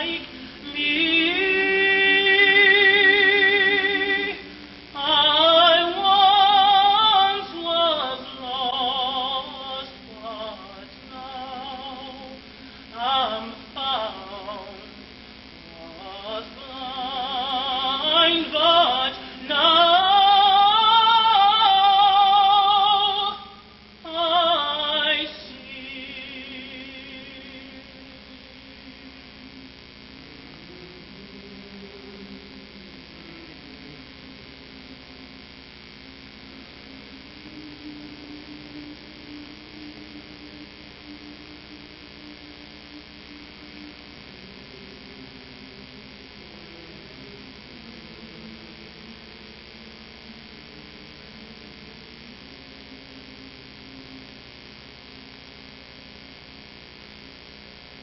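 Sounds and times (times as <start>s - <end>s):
electrical hum and tape hiss: 0.0s - 58.0s.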